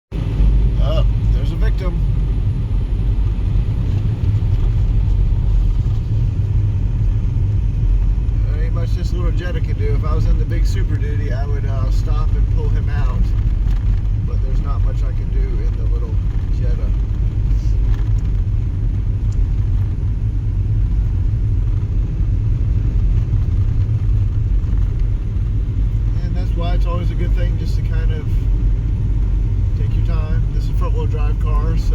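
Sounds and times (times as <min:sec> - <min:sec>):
car driving on snowy road: 0:00.1 - 0:31.9.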